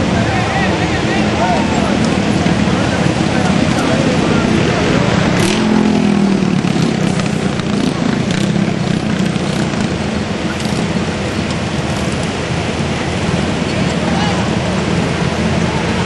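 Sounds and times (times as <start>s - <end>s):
car engines running: 0.0s - 16.0s
crowd voices: 0.0s - 16.0s.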